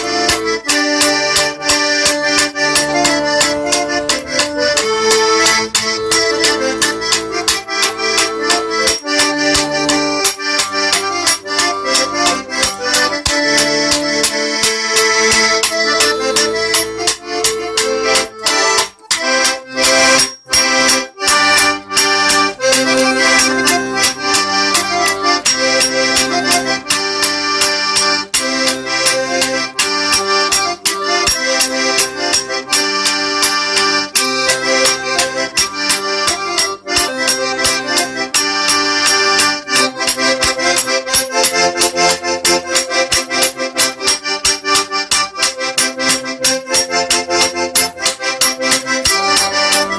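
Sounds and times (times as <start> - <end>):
accordion folk tune: 0.0 - 49.9.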